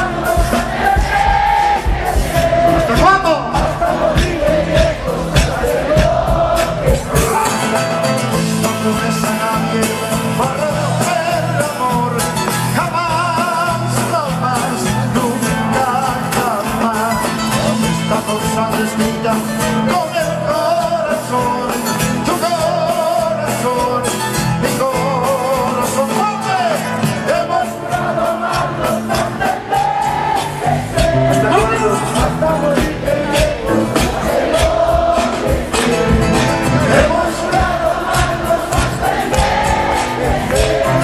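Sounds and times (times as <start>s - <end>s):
live band with singing: 0.0s - 41.0s.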